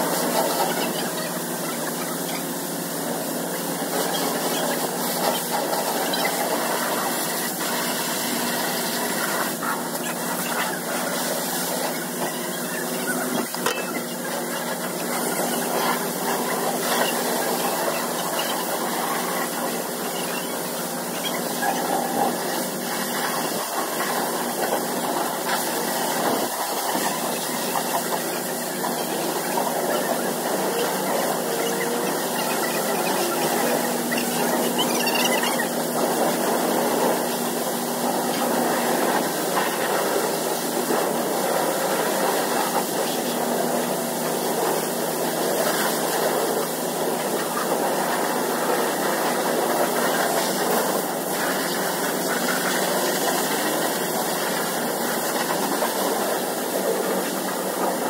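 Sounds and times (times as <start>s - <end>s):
pressure washer spraying water: 0.0s - 58.0s
pump humming: 0.0s - 58.0s.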